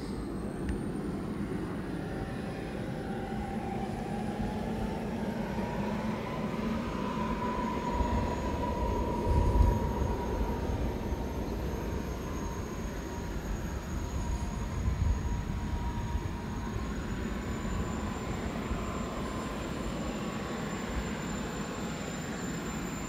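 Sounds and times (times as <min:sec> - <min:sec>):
model jet turbines whining: 0:00.0 - 0:23.0.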